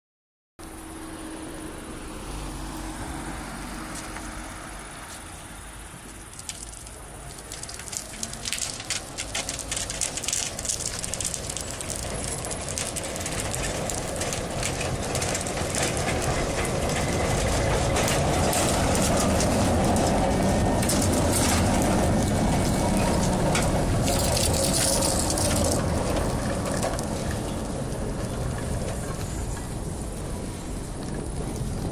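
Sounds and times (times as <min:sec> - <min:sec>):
tram rolling rush: 0:00.7 - 0:31.9
tram wheels crackling through tar: 0:02.6 - 0:31.9.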